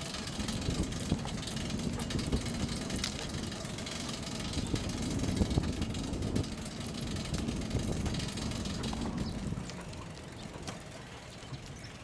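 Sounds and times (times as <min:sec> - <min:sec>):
bicycle rolling on road: 0:00.0 - 0:12.0
small clicks and rattles: 0:00.0 - 0:12.0
wind buffeting microphone: 0:00.0 - 0:12.0.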